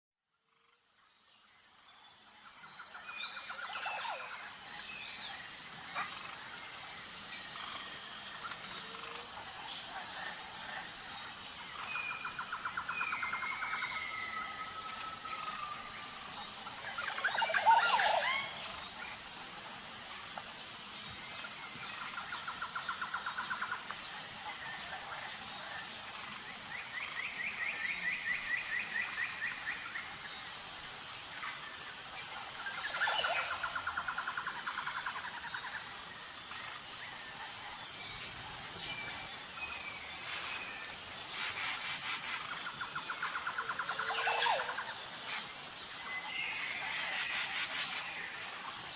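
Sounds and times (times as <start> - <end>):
high-pitched pulsing insect drone: 0.3 - 48.9
bird calls and trills: 0.5 - 48.9.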